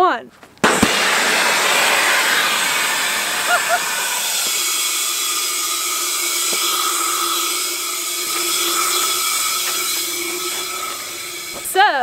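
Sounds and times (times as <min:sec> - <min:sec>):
compressed air hissing: 0:00.6 - 0:12.0.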